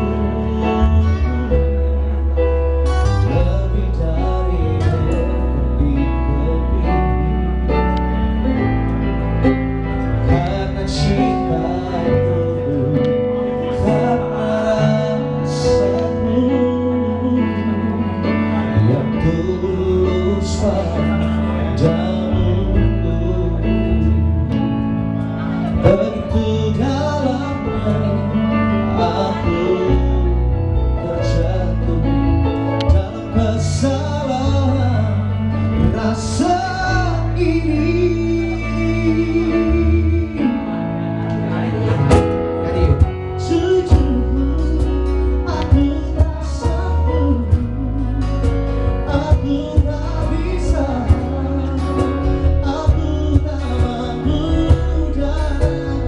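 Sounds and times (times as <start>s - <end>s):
acoustic guitar: 0.0s - 56.0s
bass: 0.0s - 56.0s
keyboard: 0.0s - 56.0s
man singing into a microphone: 0.0s - 56.0s.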